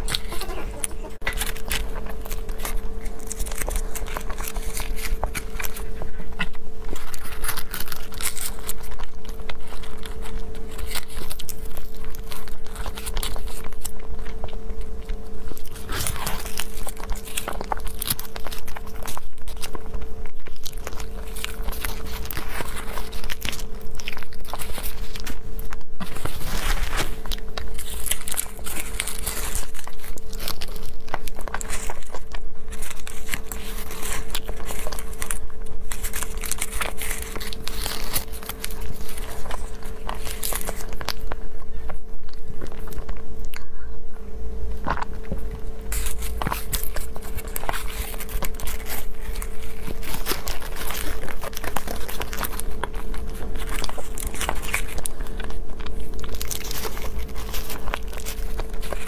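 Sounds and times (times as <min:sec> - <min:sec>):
paper liner crinkling: 0:00.0 - 0:43.9, 0:44.7 - 0:59.0
chewing soft sweet: 0:00.0 - 0:59.0
electrical hum: 0:00.0 - 0:59.0.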